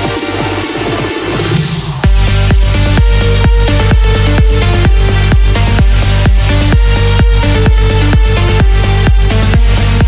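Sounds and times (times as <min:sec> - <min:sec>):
electronic dance music: 0:00.0 - 0:10.0
kick drum: 0:00.0 - 0:10.0.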